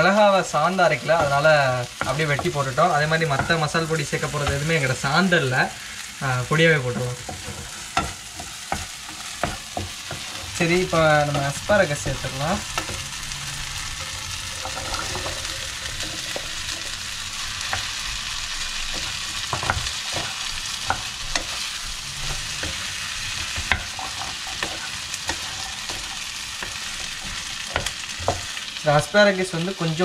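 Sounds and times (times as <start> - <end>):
vegetables sizzling in a pan: 0.0 - 30.0
wooden spoon scraping a pan: 0.9 - 28.8.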